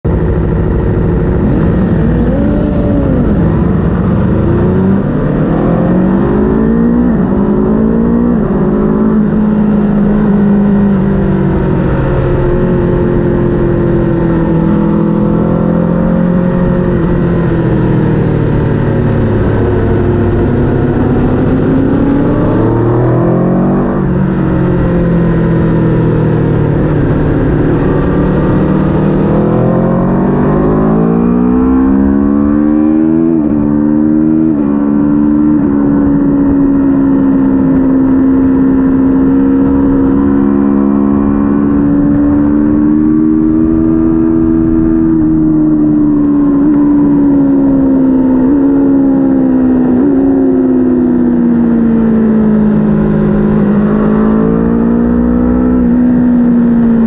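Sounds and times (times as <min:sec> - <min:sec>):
racing engine accelerating and slowing: 0:00.0 - 0:57.0.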